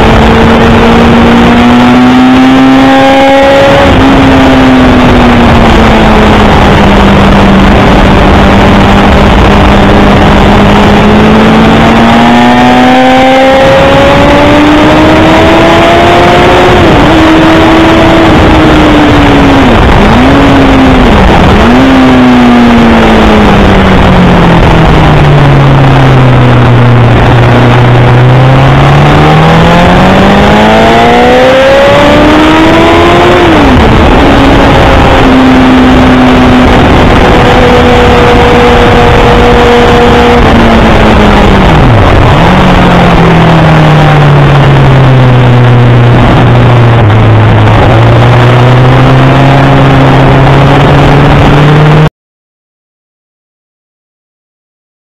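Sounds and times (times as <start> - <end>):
motorcycle engine revving: 0.0 - 52.1
wind rush: 0.0 - 52.1.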